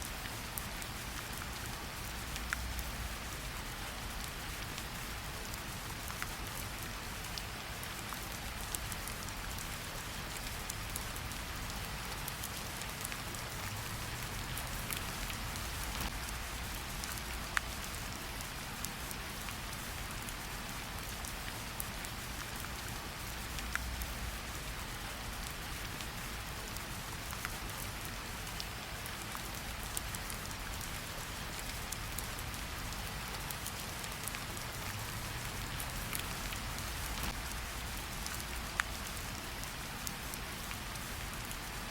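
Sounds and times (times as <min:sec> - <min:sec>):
steady rain hiss: 0:00.0 - 0:41.9
raindrop ticks: 0:00.3 - 0:05.0, 0:06.0 - 0:41.7.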